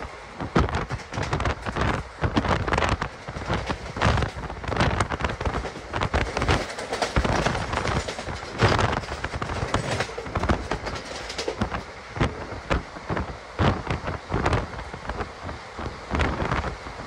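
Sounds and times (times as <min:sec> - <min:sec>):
train running gear clattering: 0:00.0 - 0:17.0
wind and rail noise: 0:00.0 - 0:17.0.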